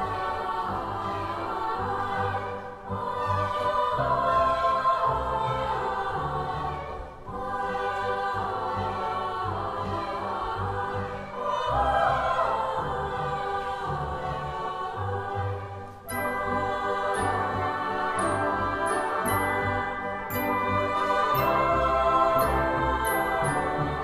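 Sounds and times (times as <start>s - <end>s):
choir singing held notes: 0.0s - 24.0s.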